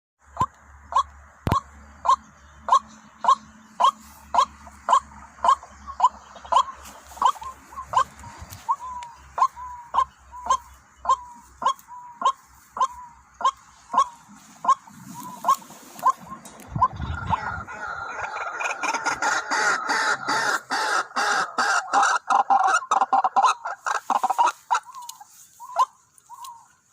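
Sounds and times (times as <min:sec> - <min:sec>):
waterhen calling: 0:00.3 - 0:26.9.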